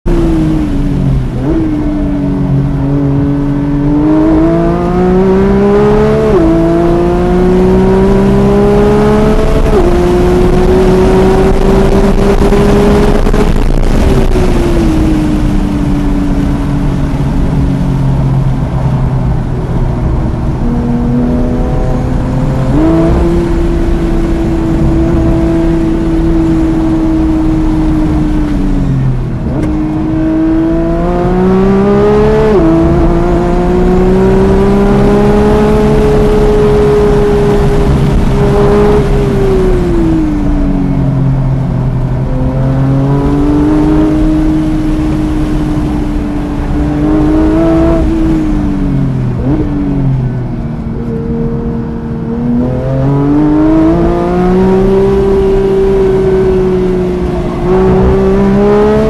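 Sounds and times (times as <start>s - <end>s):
car engine at full throttle: 0.0s - 59.0s
road and wind noise: 0.0s - 59.0s.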